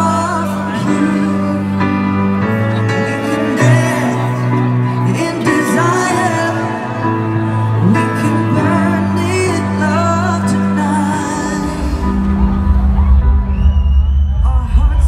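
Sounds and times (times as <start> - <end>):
man singing: 0.0 - 12.6
sustained bass notes and chords: 0.0 - 15.0.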